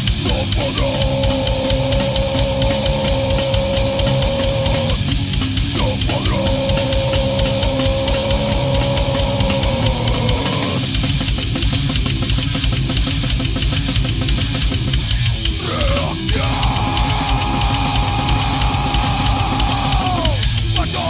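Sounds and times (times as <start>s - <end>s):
distorted guitar and bass: 0.0s - 21.0s
fast dense drumming: 0.0s - 21.0s.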